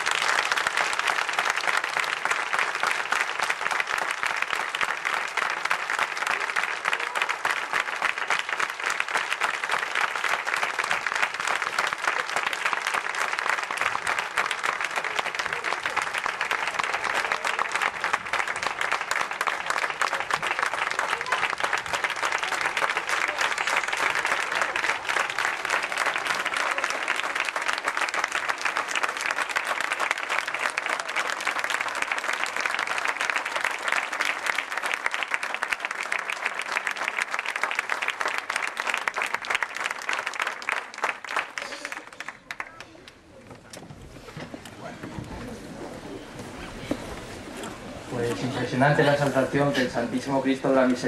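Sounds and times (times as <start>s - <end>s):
audience applauding: 0.0s - 51.0s.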